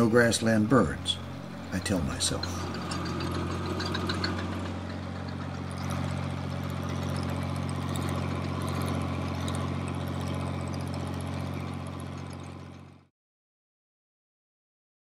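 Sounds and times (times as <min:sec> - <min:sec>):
tractor engine humming: 0:00.0 - 0:13.1.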